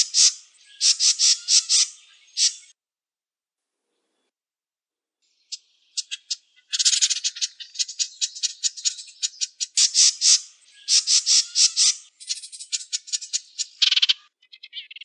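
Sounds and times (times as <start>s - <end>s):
wren singing trills: 0.0s - 2.7s, 5.3s - 15.0s.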